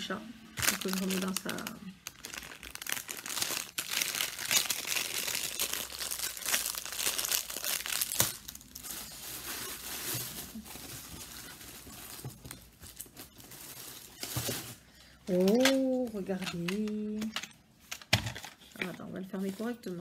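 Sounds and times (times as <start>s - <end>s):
plastic bag crinkling: 0.4s - 20.0s.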